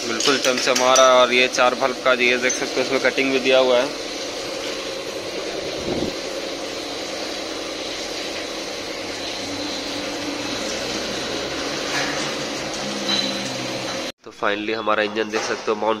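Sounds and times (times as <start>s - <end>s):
mechanical hum with hiss: 0.0s - 14.4s.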